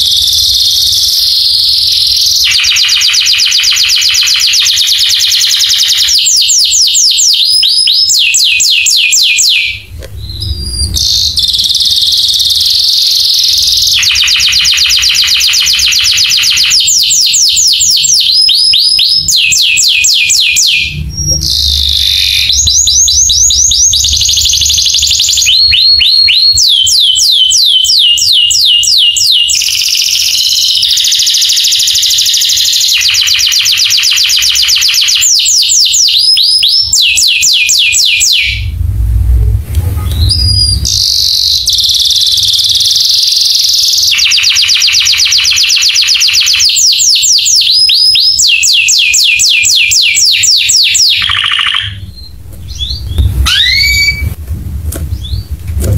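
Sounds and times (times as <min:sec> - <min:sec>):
canary singing trills: 0:00.0 - 0:38.8, 0:40.1 - 0:54.4.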